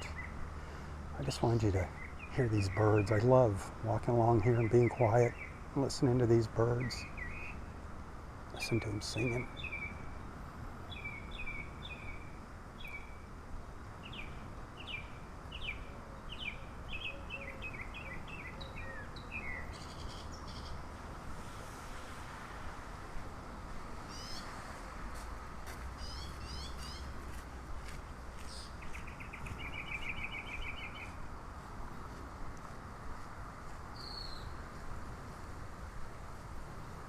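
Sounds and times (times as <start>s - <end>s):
songbirds singing: 0.0s - 21.2s, 24.0s - 25.1s, 25.8s - 32.3s, 33.8s - 34.8s.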